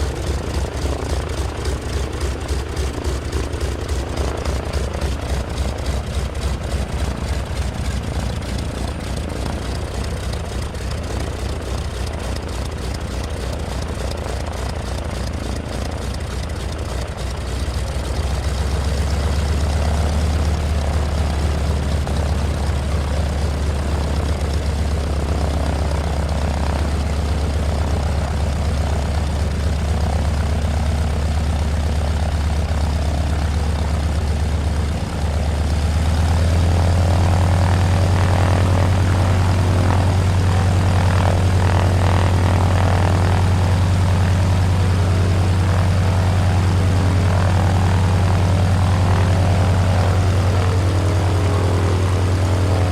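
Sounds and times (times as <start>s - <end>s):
propeller airplane engine running: 0.0s - 52.9s.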